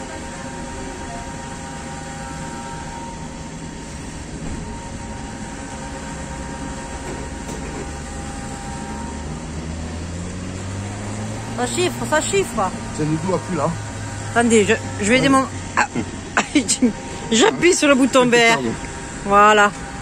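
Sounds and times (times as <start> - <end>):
fuel pump humming: 0.0 - 20.0
thin whine: 0.0 - 20.0.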